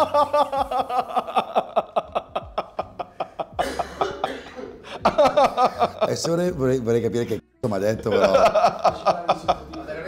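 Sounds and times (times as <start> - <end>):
man laughing heartily: 0.0 - 6.3, 8.1 - 10.0.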